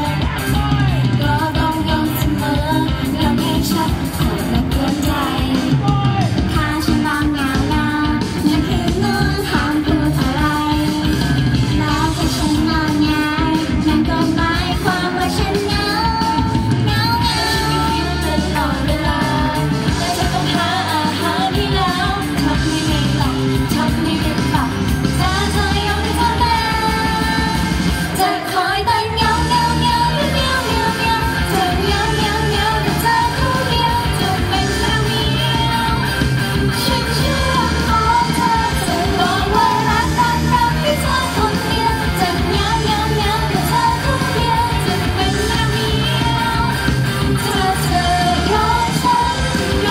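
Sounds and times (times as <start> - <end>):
pop backing track with beat: 0.0 - 49.9
woman singing into microphone: 0.0 - 49.9.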